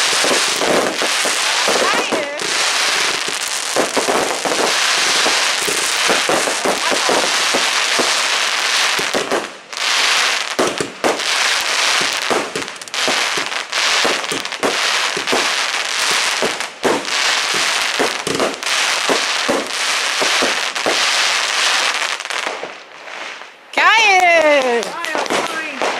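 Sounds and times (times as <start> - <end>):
firecrackers crackling hiss: 0.0 - 25.9
firework bangs: 0.0 - 25.9.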